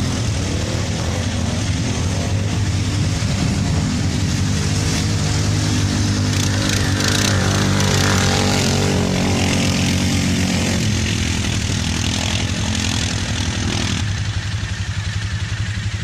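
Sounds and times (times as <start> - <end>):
atv engines running: 0.0 - 16.0.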